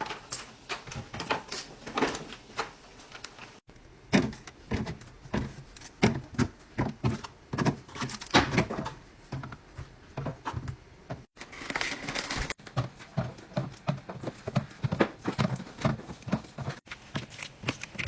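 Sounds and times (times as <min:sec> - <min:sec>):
containers clattering in fridge: 0:03.5 - 0:18.0.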